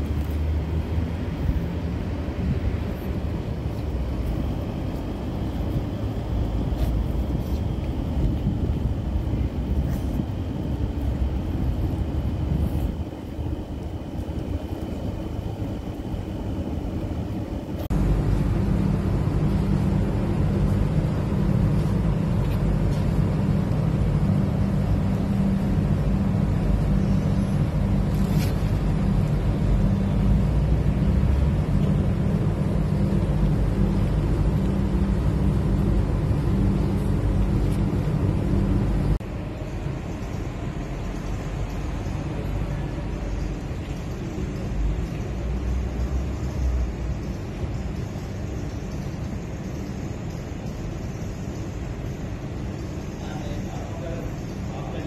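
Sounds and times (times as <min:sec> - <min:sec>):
outdoor background rumble: 0:00.0 - 0:55.0
steady hum: 0:00.0 - 0:55.0.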